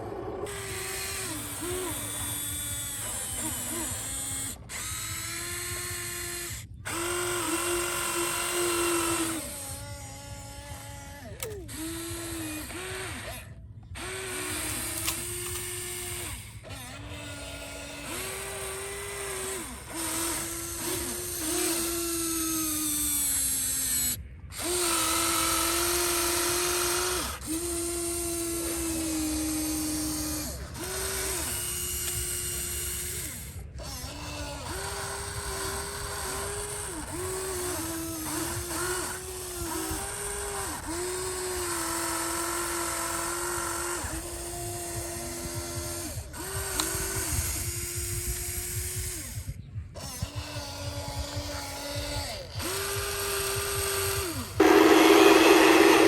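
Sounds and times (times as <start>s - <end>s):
small electric motors whining: 0.0s - 56.0s.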